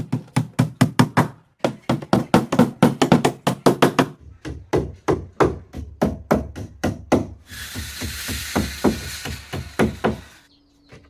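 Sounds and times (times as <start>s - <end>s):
rapid sharp knocks: 0.0s - 10.4s.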